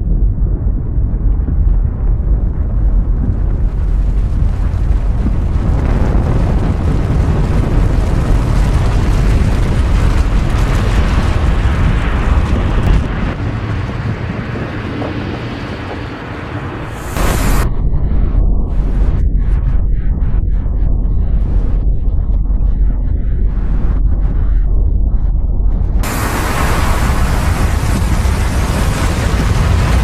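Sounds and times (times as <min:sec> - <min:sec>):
blizzard wind buffeting microphone: 0:00.0 - 0:30.0.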